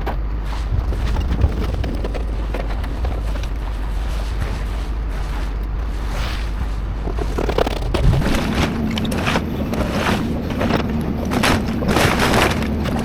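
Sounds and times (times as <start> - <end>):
debris crunching and scraping: 0.0 - 13.0
excavator engine under load: 0.0 - 13.0.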